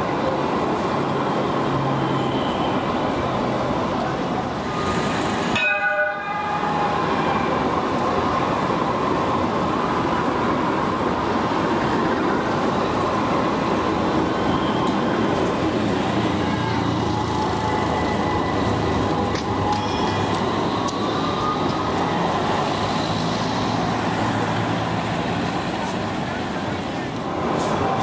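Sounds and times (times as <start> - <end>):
tram wheels running on rail: 2.8 - 28.0.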